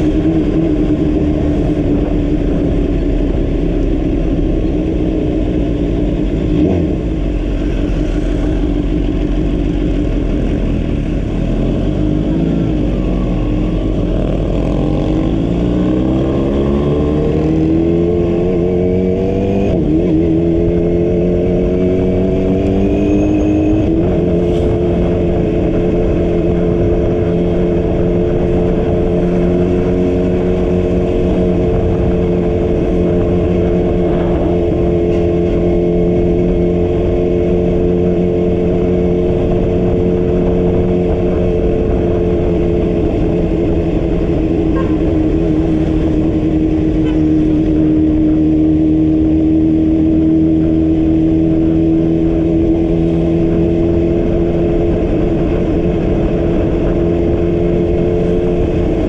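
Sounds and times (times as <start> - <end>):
vehicle engine accelerating: 0.0 - 59.0.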